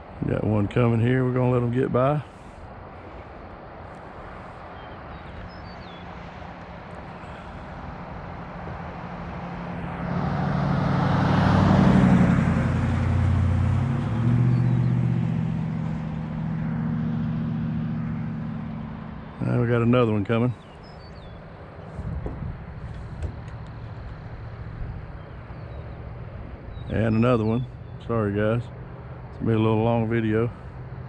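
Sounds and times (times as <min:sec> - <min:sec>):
vehicle driving past: 0:02.2 - 0:31.0.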